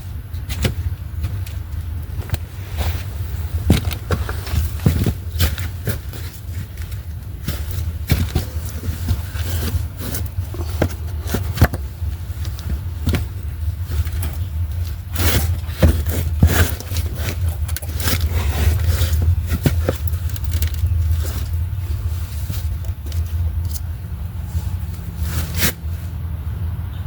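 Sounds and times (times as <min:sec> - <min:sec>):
heavy metal parts knocking and scraping: 0:00.0 - 0:25.9
steady low rumble: 0:00.0 - 0:27.0.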